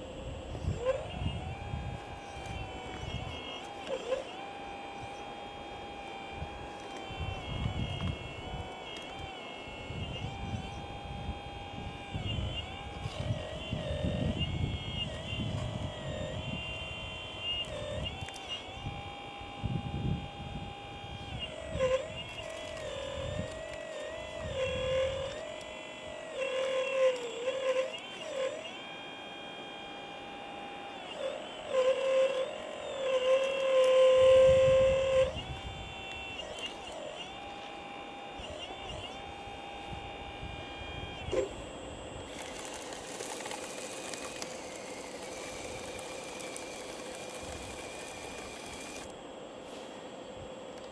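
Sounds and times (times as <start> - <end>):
model excavator motor whining: 0.0 - 50.9.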